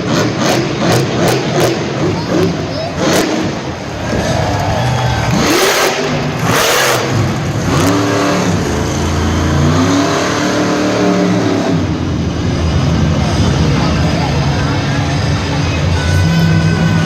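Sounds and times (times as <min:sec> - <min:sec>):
loud bursts of noise: 0:00.0 - 0:17.0
truck engine revving: 0:00.0 - 0:17.0.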